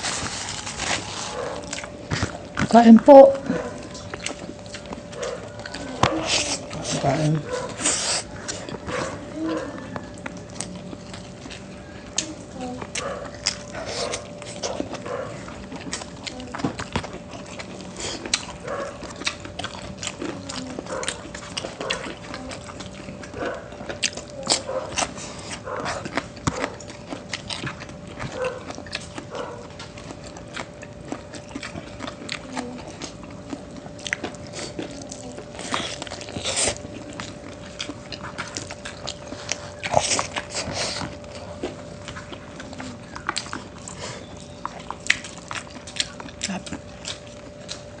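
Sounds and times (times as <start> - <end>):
chewing and mouth smacking: 0.0 - 48.0
faint steady hum: 0.0 - 48.0.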